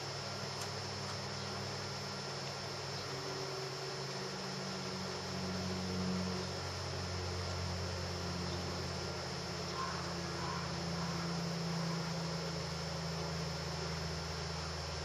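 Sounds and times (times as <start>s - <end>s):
even hiss: 0.0s - 15.0s
low electrical hum: 0.0s - 15.0s
thin high whine: 0.0s - 15.0s.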